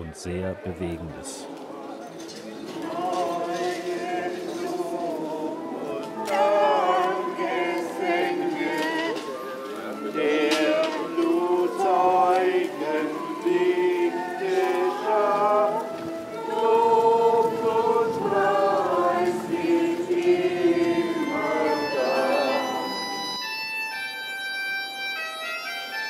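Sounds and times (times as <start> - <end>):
choir singing slow chant: 1.4 - 23.5.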